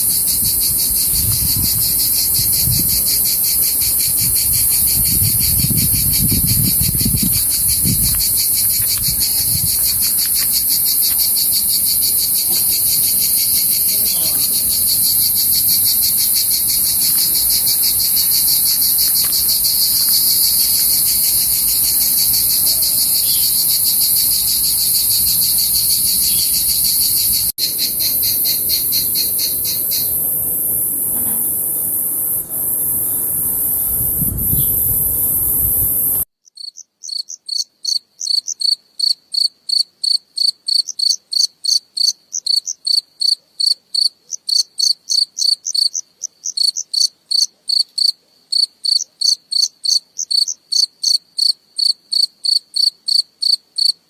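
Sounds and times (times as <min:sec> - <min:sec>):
chorus of cricket trills: 0:00.0 - 0:54.0
single cricket chirping: 0:00.0 - 0:54.0.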